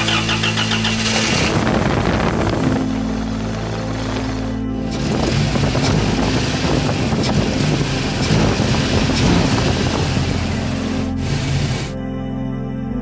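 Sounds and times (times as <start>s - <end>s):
engine running rough: 0.0s - 12.0s.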